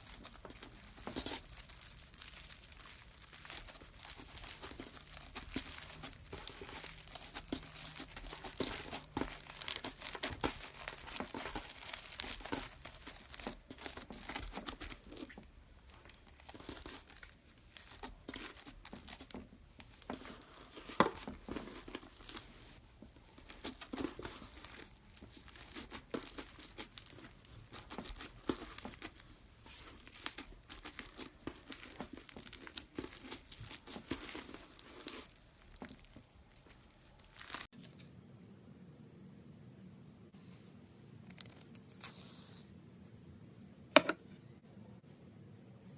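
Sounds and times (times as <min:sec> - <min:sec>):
slime squished and stretched by hand: 0:00.0 - 0:37.8.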